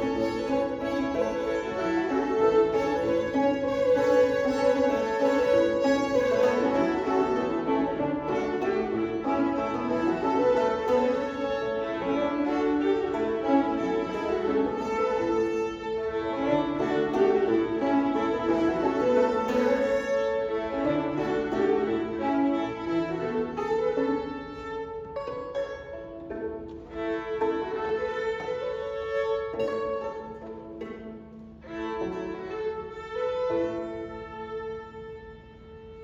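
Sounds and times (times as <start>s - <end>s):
banjo plucked notes: 0.0s - 34.9s
fiddles playing a melody: 0.0s - 36.0s.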